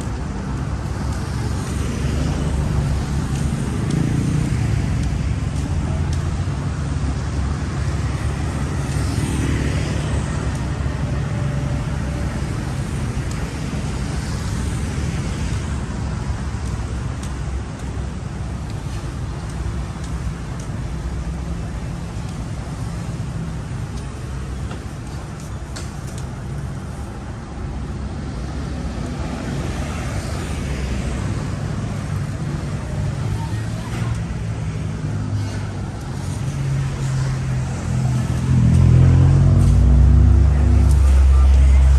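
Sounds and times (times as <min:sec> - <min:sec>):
road traffic rumble: 0:00.0 - 0:41.9
vehicles passing: 0:00.0 - 0:41.9.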